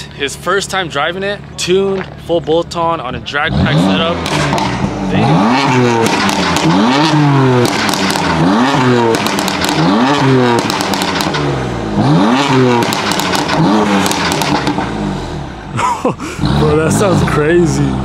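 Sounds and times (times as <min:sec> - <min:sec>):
car engine revving: 0:00.0 - 0:18.0
exhaust pops and crackles: 0:00.3 - 0:15.0.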